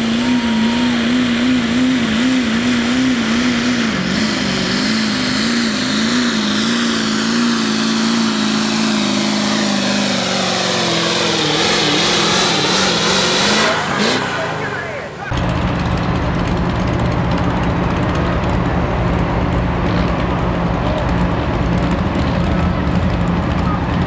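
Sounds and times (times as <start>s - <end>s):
diesel pickup engine at high revs: 0.0s - 24.0s.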